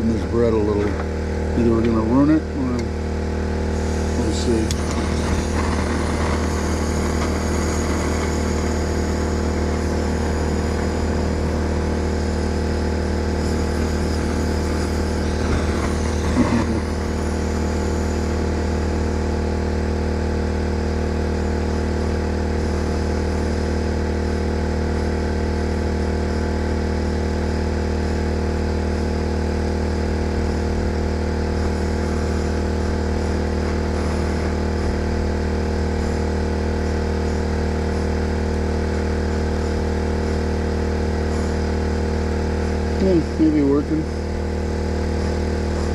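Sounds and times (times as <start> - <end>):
generator engine droning: 0.0 - 45.9.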